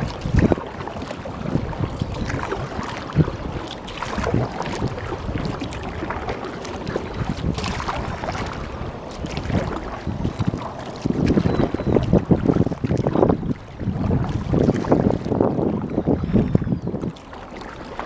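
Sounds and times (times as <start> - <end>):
paddle strokes splashing in water: 0.0 - 18.0
water lapping against plastic hull: 0.0 - 18.0
wind on microphone: 0.0 - 18.0.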